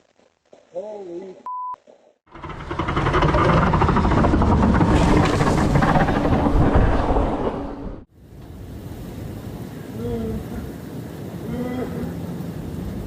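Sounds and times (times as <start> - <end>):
loud steady rumbling: 2.3 - 13.0.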